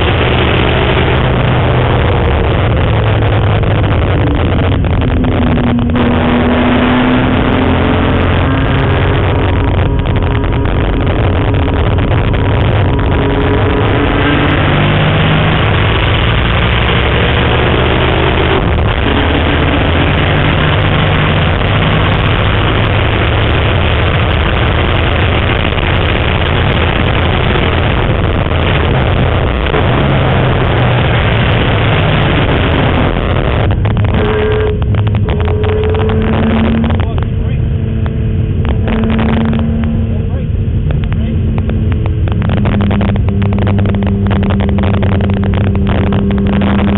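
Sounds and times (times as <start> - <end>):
loud road noise: 0.0 - 46.9
race car engine pulling hard: 0.0 - 46.9.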